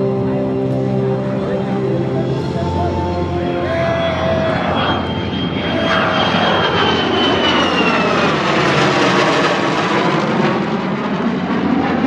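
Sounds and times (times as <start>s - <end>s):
aircraft engine whine passing: 0.0s - 12.0s.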